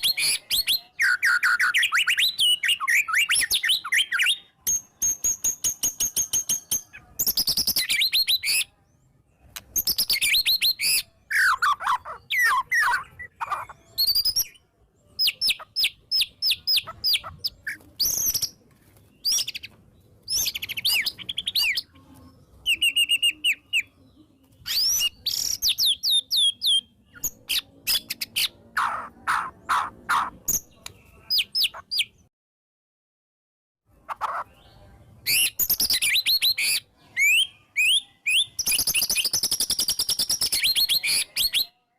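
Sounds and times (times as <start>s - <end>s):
bird singing trills and whistles: 0.0s - 8.8s, 9.4s - 21.9s, 22.6s - 32.2s, 34.3s - 41.8s.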